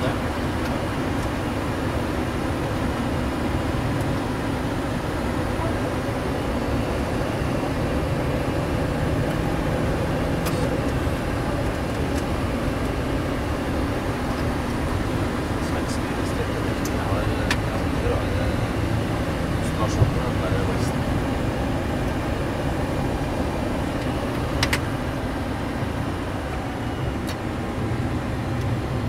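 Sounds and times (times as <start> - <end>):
aircraft cockpit engine hum: 0.0 - 29.0.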